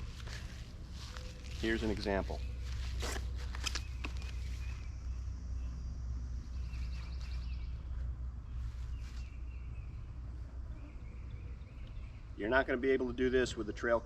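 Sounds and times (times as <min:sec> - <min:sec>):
birds chirping in trills: 0:00.0 - 0:14.0.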